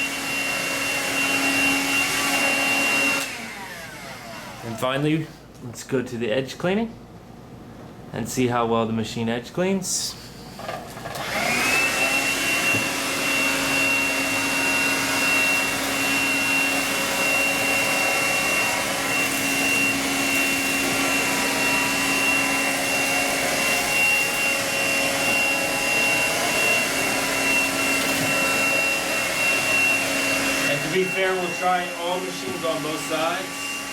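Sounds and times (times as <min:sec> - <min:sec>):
cordless vacuum motor whine: 0:00.0 - 0:04.7, 0:11.0 - 0:33.9.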